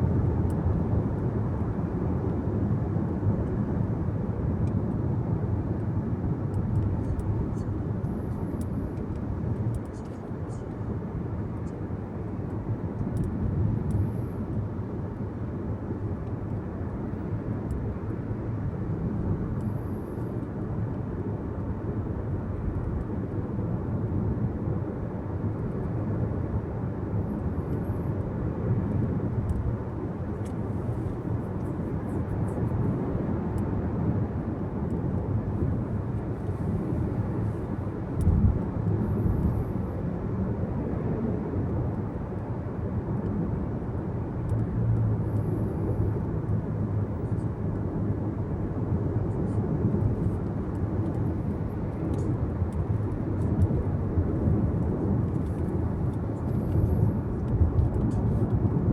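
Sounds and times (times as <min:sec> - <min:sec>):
car road and engine noise: 0:00.0 - 0:58.9.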